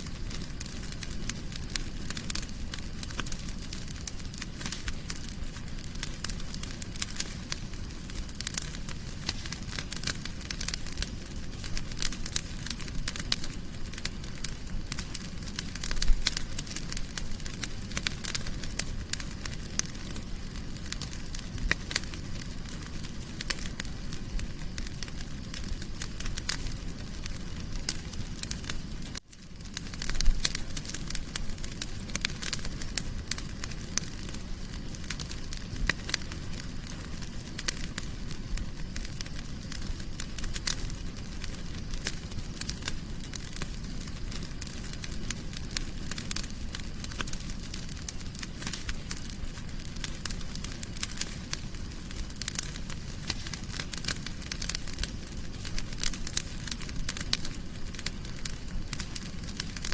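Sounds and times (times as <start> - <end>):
fire crackling and popping: 0.0 - 59.9
low rush of flame: 0.0 - 59.9.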